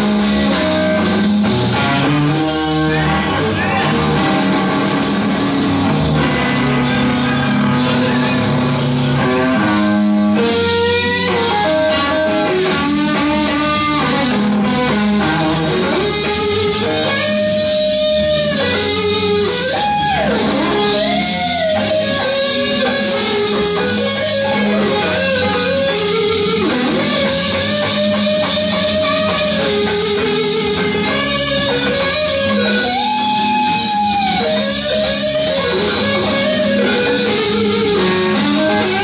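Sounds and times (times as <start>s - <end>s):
electric guitar playing blues: 0.0s - 39.0s.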